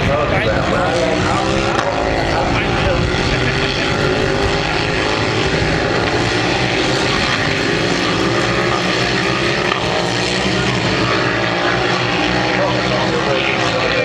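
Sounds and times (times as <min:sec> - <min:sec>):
racing motorcycle engines revving: 0:00.6 - 0:14.0.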